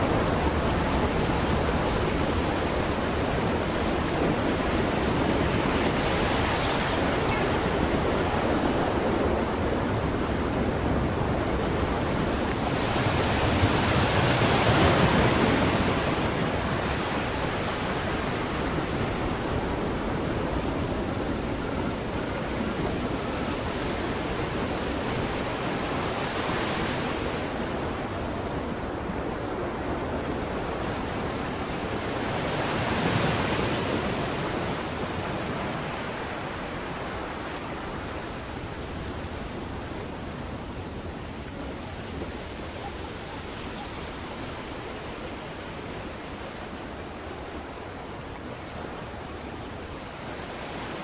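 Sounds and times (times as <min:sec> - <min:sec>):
ocean surf washing: 0:00.0 - 0:51.0.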